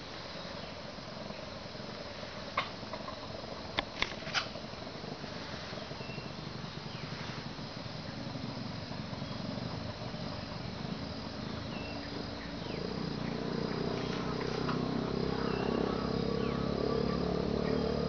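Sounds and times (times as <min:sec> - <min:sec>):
insects chirring: 0:00.0 - 0:18.0
low steady hum: 0:00.0 - 0:18.0.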